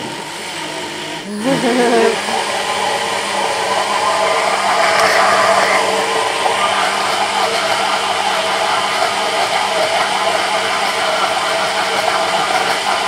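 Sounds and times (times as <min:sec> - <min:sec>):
countertop blender running: 0:00.0 - 0:13.0.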